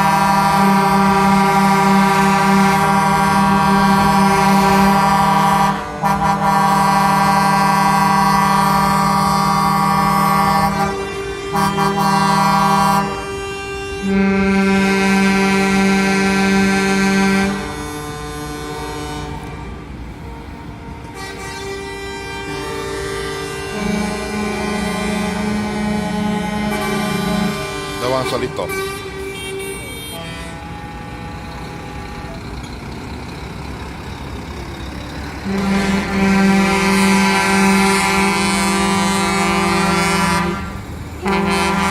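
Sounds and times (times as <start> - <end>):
truck air horns blowing: 0.0 - 33.6, 34.4 - 41.9.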